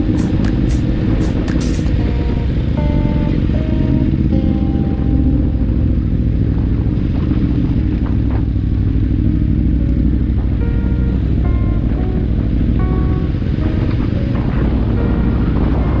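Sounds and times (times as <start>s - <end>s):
background music: 0.0s - 7.5s, 8.6s - 16.0s
motorcycle engine rumble: 0.0s - 16.0s
wind noise: 0.0s - 16.0s.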